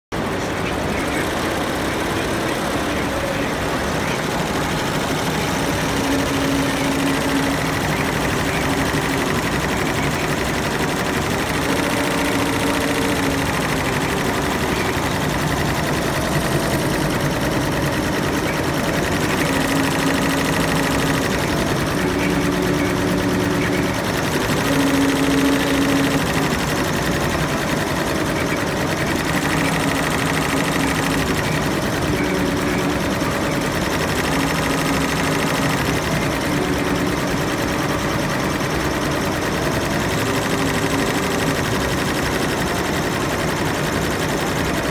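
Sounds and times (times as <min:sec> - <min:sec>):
embroidery machine stitching: 0:00.2 - 0:44.9.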